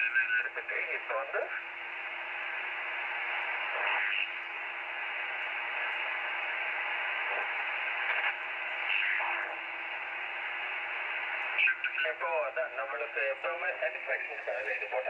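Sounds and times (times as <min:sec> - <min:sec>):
radio band noise hiss: 0:00.0 - 0:15.0.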